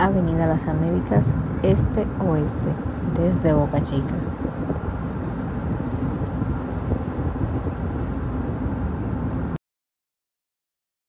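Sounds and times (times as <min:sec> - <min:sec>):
vehicle road and engine noise: 0:00.0 - 0:09.6.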